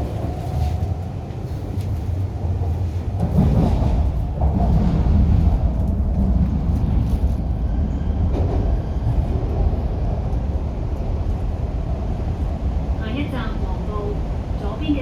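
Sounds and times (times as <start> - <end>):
train rumbling inside car: 0.0 - 15.0.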